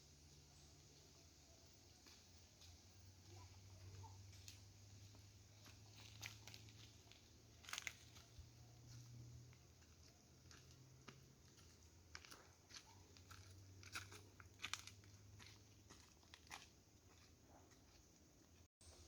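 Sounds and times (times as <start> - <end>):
faint crunches and crackles: 1.6 - 18.0.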